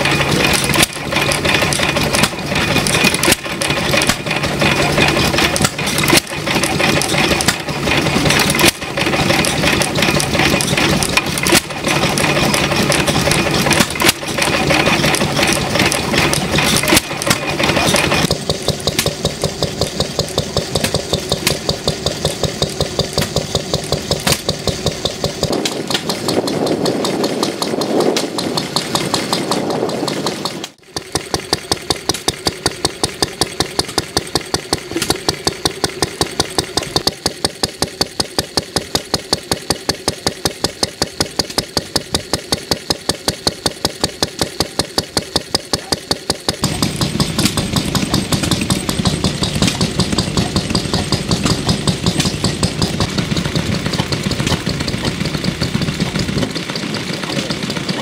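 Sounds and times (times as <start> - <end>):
sharp engine knocks: 0.0 - 58.0
stationary engines running: 0.0 - 58.0.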